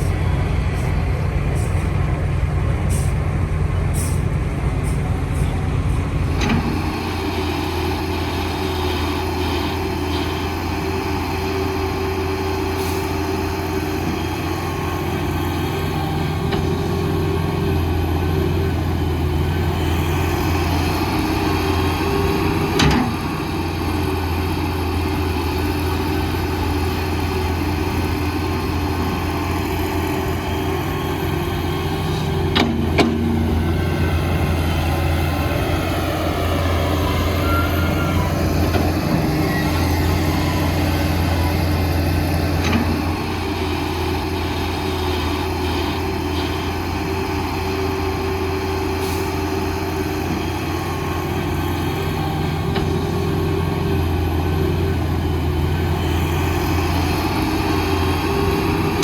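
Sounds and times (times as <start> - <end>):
diesel machinery engine drone: 0.0 - 59.0.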